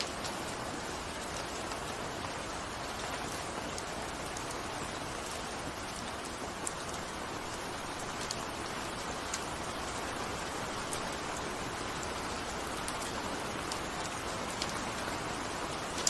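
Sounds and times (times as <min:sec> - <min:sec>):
raindrop ticks: 0:00.0 - 0:16.0
steady rainfall hiss: 0:00.0 - 0:16.0.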